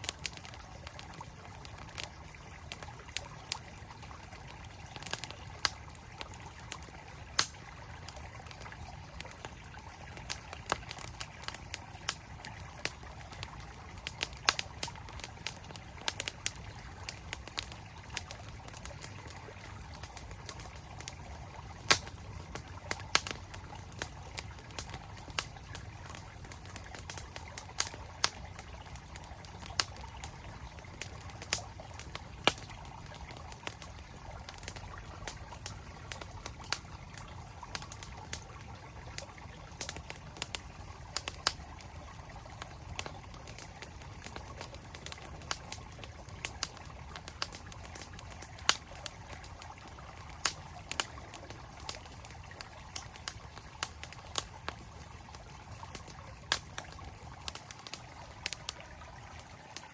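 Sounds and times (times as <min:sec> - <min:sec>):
campfire crackling: 0:00.0 - 0:59.9
flowing mountain stream: 0:00.0 - 0:59.9.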